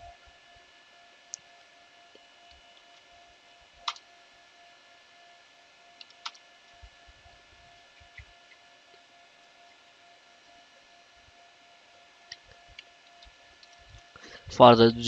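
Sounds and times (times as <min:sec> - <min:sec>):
faint electrical hum and hiss: 0:00.0 - 0:15.0.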